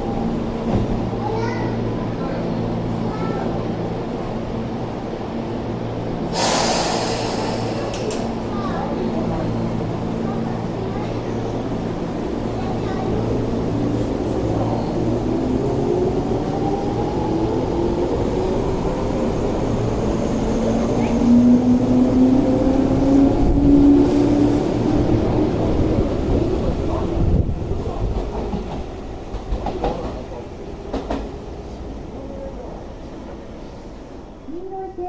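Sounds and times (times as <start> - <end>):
train wheels rumbling: 5.4 - 34.4.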